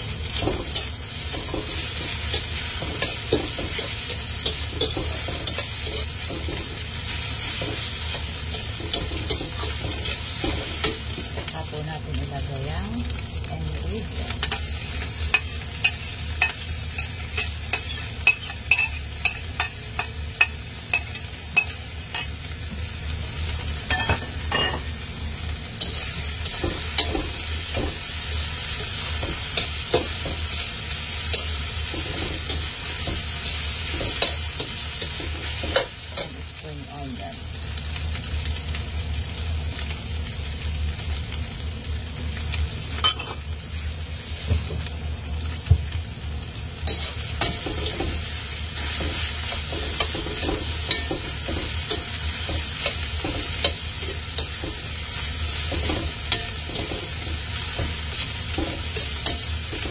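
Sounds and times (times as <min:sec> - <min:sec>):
rice sizzling in a wok: 0:00.0 - 0:59.9.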